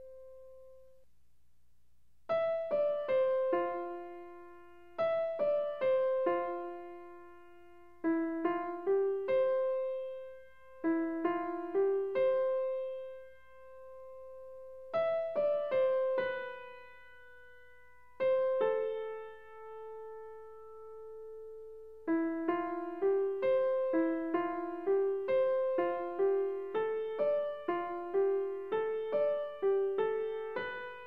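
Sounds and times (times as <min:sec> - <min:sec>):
piano-like keyboard music: 0:00.0 - 0:00.9, 0:02.3 - 0:31.0.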